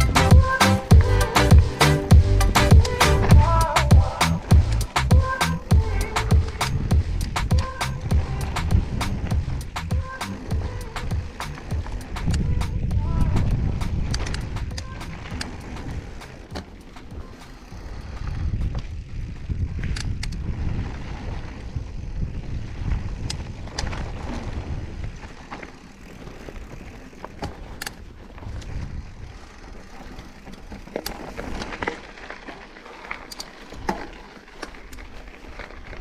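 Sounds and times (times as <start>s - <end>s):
wind rumbling on microphone: 0.0s - 32.0s
bike clicks and rattles: 0.0s - 36.0s
tyres rolling over dirt: 0.0s - 36.0s.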